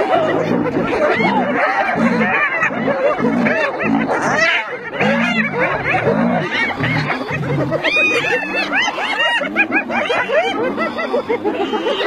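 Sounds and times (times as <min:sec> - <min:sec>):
low growls: 0:00.0 - 0:11.0
hyenas giggling: 0:00.0 - 0:12.0.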